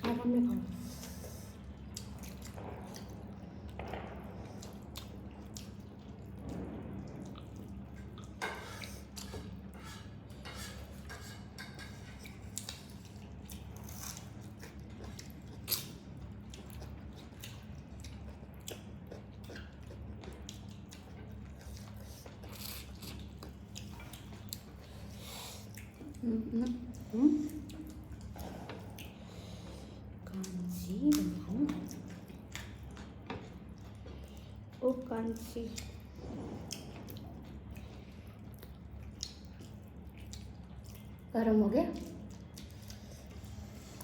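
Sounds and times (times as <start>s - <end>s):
people chewing food: 0.0s - 44.0s
steady low hum: 0.0s - 44.0s.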